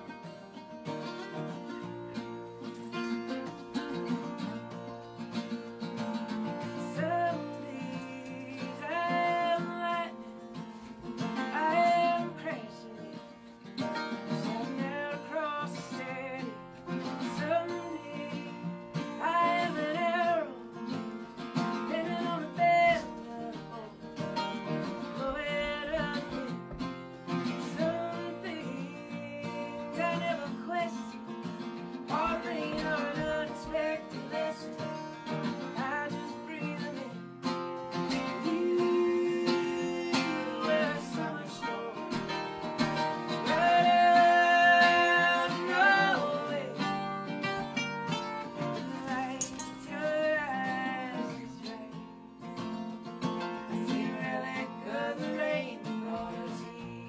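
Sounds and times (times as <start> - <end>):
acoustic guitar strummed: 0.0 - 57.0
mandolin picked: 0.0 - 57.0
person singing: 6.4 - 47.9, 48.5 - 52.4, 53.4 - 57.0.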